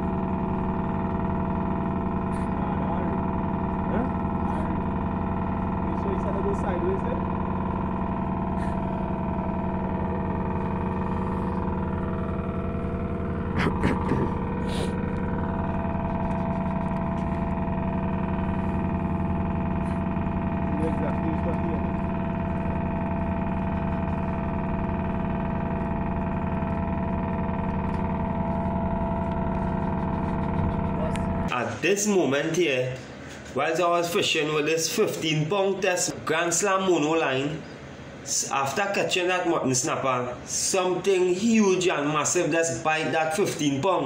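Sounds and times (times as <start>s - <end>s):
ship machinery drone: 0.0s - 44.0s.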